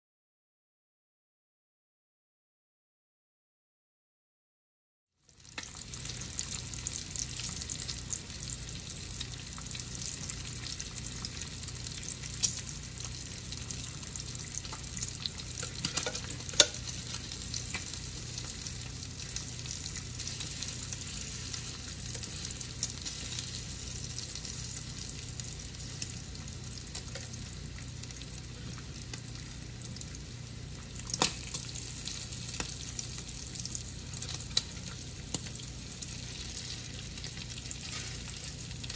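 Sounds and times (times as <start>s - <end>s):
bacon sizzling in a fry pan: 5.2s - 38.9s
pops and clicks of turning bacon: 5.3s - 38.9s.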